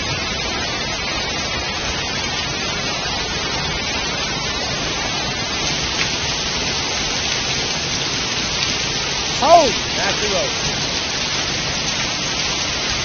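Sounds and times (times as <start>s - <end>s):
hail and rain falling hard: 0.0s - 13.0s.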